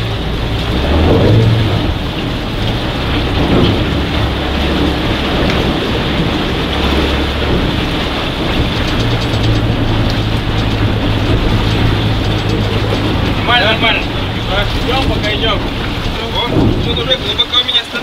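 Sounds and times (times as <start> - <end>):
boat motor humming: 0.0 - 18.0
steady rushing noise: 0.0 - 18.0.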